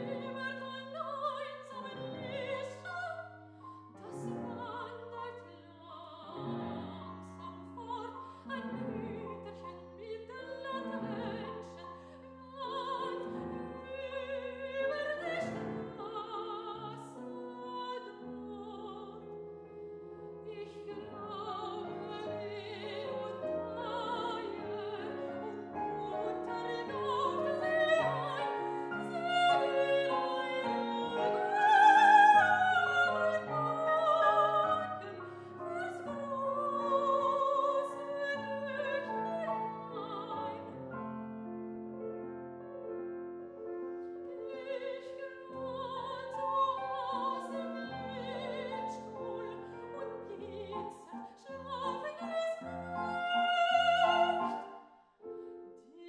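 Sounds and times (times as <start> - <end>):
woman singing with vibrato: 0.0 - 3.4, 4.0 - 19.3, 20.4 - 40.8, 44.3 - 54.8
grand piano accompaniment: 0.0 - 56.0.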